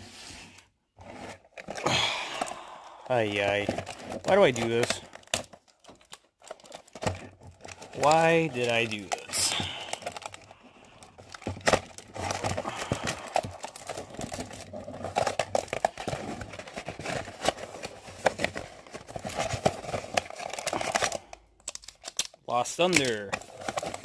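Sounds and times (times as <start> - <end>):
packaging crinkling and rustling: 0.3 - 24.0.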